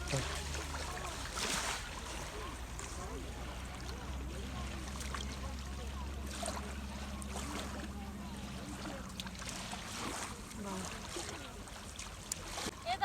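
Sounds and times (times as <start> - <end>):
low steady hum: 0.0 - 11.8
faint chatter of people: 0.0 - 13.0
surf: 0.0 - 13.0.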